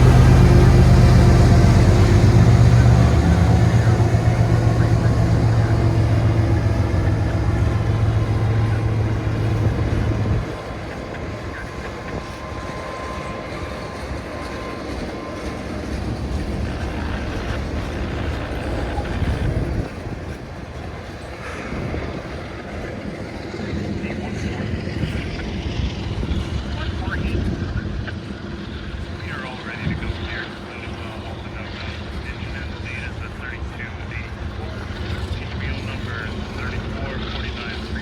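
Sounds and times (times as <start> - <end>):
diesel locomotive engine drone: 0.0 - 38.0
freight cars rumbling on rails: 0.0 - 38.0.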